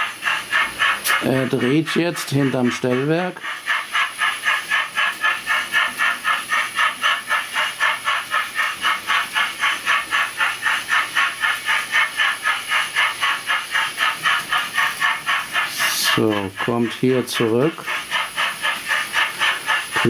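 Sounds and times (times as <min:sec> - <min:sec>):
steam engine chuffing: 0:00.0 - 0:20.0.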